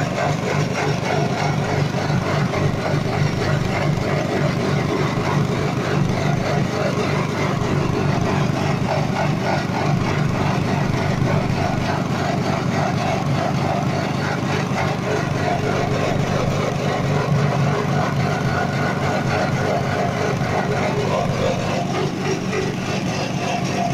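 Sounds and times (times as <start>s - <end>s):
grinding machine engine running: 0.0s - 23.9s.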